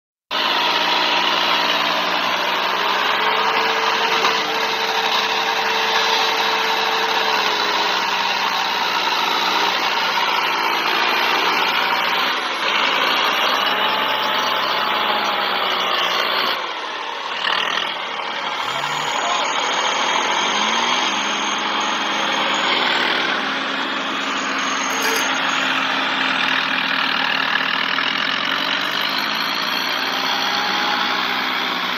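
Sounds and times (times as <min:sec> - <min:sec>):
diesel tractor engines under load: 0:00.3 - 0:31.9.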